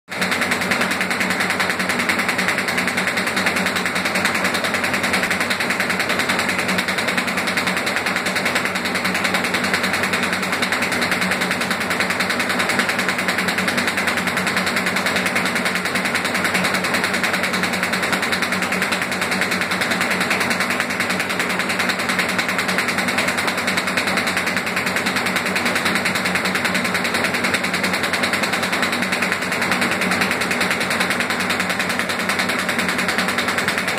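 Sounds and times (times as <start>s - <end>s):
machine mechanical clatter: 0.1s - 33.9s.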